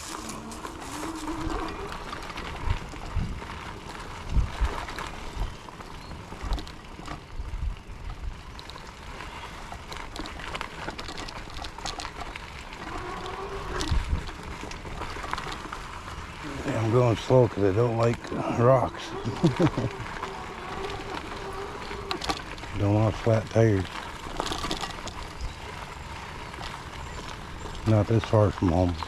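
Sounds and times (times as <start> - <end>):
bike thumping and rattling: 0.0 - 7.4, 9.6 - 27.8
wind and tyre noise: 0.0 - 29.0.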